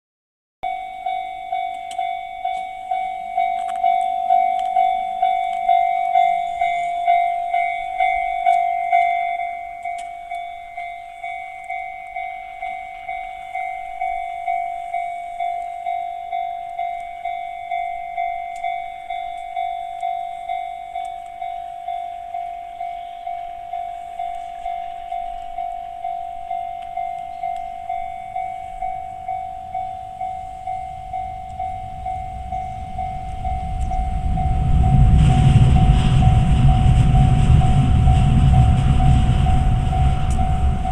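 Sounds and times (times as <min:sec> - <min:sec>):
level-crossing alarm bell tone: 0:00.6 - 0:40.9.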